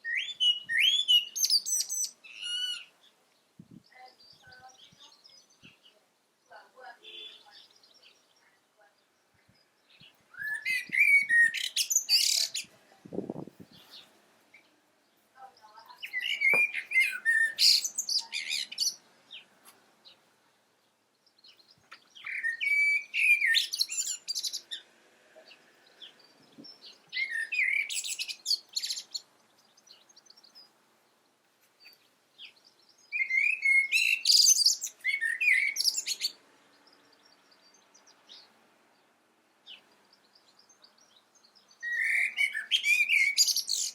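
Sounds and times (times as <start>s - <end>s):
blackbird singing: 0.0s - 20.2s, 21.1s - 24.8s, 25.4s - 31.2s, 31.8s - 38.6s, 39.6s - 43.9s.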